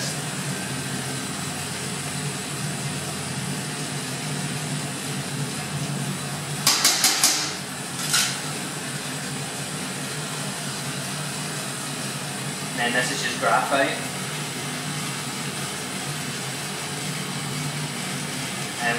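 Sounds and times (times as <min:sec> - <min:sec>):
torch flame hissing: 0:00.0 - 0:18.9.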